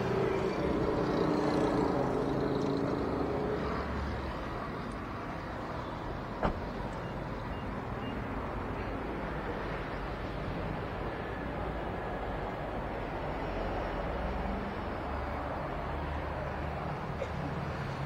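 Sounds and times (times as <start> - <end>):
traffic and street noise: 0.0 - 18.0.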